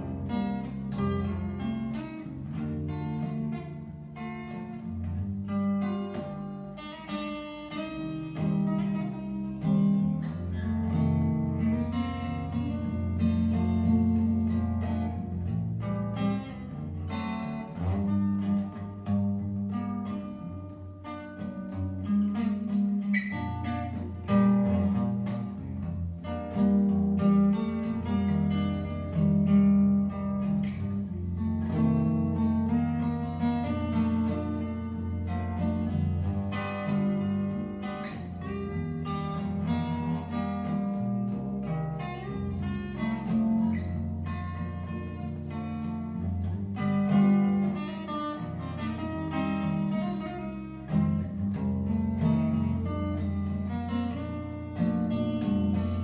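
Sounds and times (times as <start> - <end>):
fingerstyle acoustic guitar: 0.0 - 56.0.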